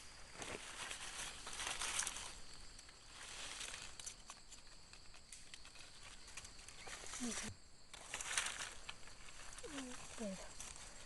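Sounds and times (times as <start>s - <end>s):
dry leaves rustling and crackling: 0.3s - 11.0s.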